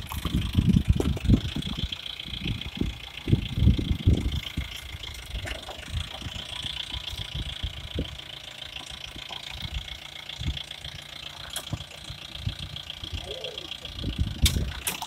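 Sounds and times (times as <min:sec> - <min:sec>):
vehicle bumping over rocks: 0:00.0 - 0:13.1, 0:14.1 - 0:15.0
off-road vehicle engine rumbling: 0:00.0 - 0:15.0.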